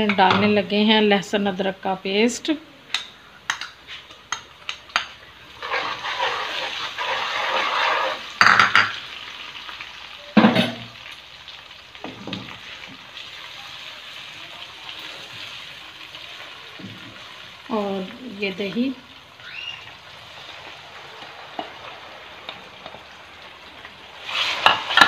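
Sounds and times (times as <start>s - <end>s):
paste sizzling in hot oil: 4.0s - 25.0s.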